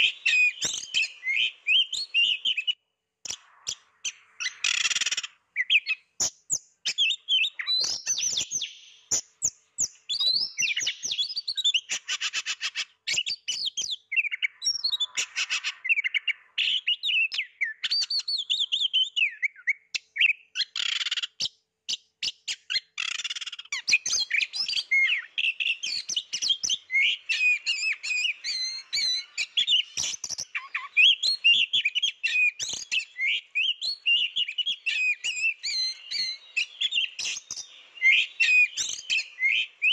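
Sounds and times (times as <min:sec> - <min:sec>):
bird singing: 0:00.0 - 0:21.4, 0:22.0 - 0:39.9.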